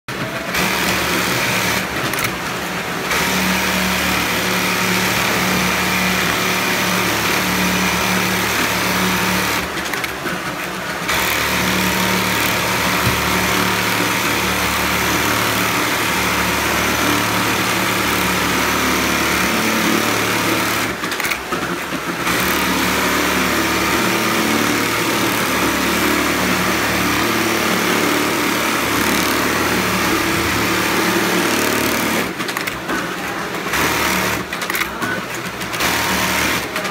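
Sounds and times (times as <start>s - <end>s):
sewing machine stitching: 0.1s - 36.9s.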